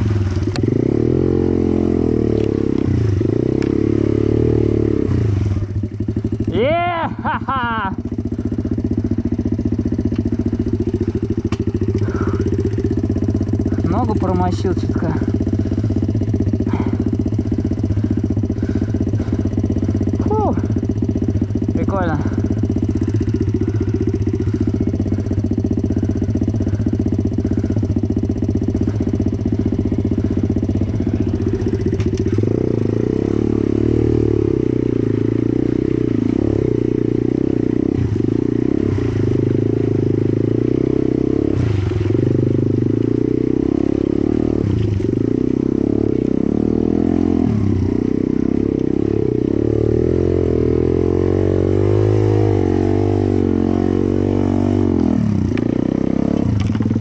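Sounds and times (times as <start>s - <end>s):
pit bike engine revving: 0.0s - 57.0s.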